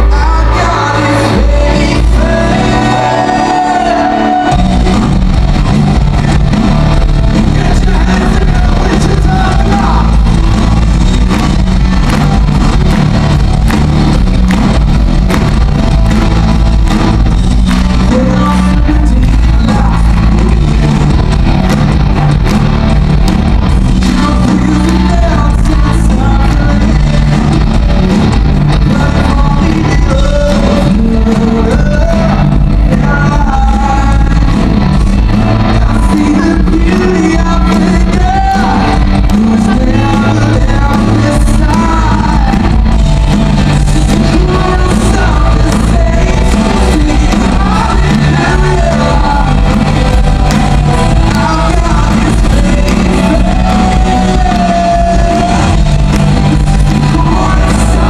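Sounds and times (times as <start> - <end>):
lead vocal singing: 0.0 - 14.9, 15.5 - 21.8, 23.9 - 58.0
bass guitar: 0.0 - 58.0
drums: 0.0 - 58.0
electric guitars: 0.0 - 58.0.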